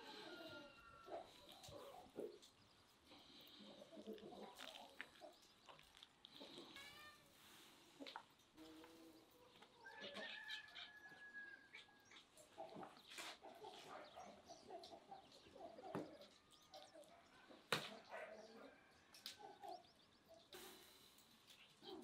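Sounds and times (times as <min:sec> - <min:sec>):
faint chicken and bird calls: 0:00.0 - 0:22.0.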